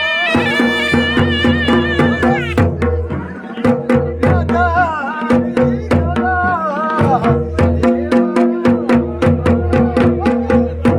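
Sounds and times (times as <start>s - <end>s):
drum strokes: 0.0s - 10.9s.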